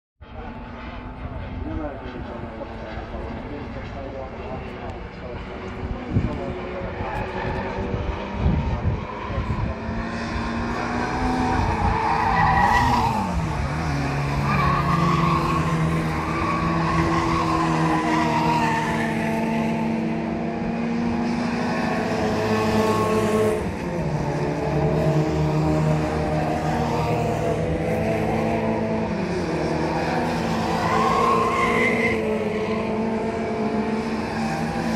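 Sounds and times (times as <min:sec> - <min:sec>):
race car engines at high revs: 0:00.2 - 0:34.9.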